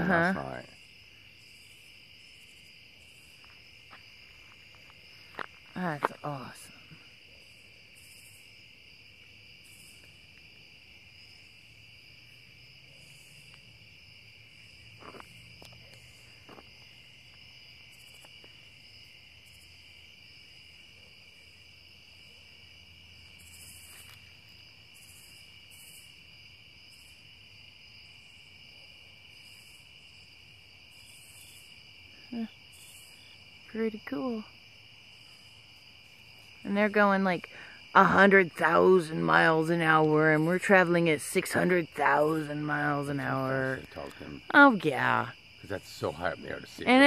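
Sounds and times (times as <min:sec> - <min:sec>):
crickets trilling: 0:00.0 - 0:47.0
higher pulsing insect call: 0:00.0 - 0:47.0.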